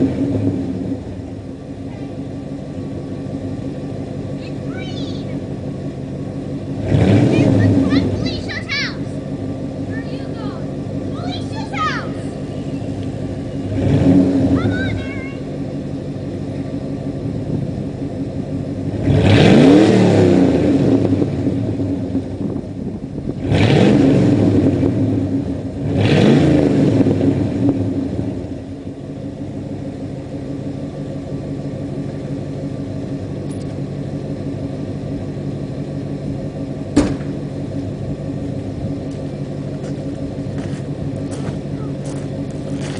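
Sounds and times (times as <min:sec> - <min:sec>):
truck engine idling and revving: 0:00.0 - 0:42.9.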